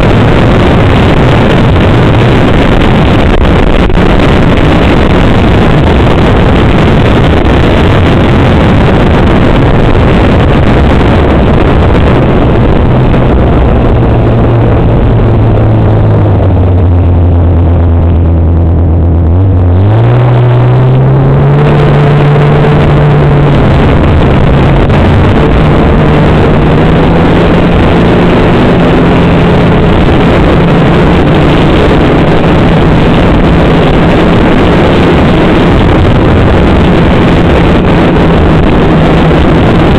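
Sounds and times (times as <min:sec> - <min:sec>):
snowmobile engine running: 0:00.0 - 0:39.9
wind noise on microphone: 0:00.0 - 0:39.9.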